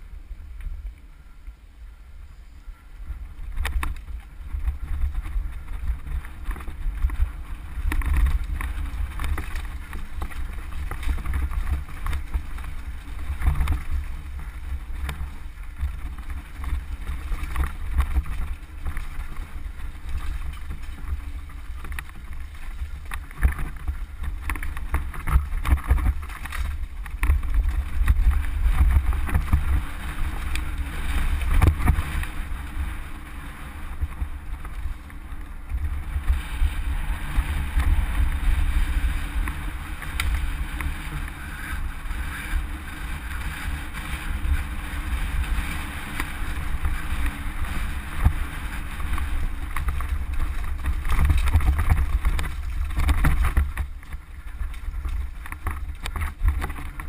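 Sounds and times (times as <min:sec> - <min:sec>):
wind rumbling on microphone: 0:00.0 - 0:57.0
bike clattering over rocks: 0:03.5 - 0:57.0.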